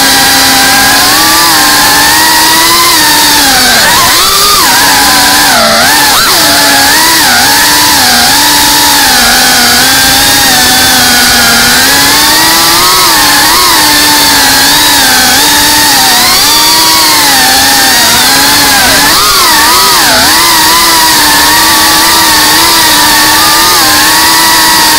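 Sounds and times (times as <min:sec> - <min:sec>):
drone motors buzzing: 0:00.0 - 0:24.9.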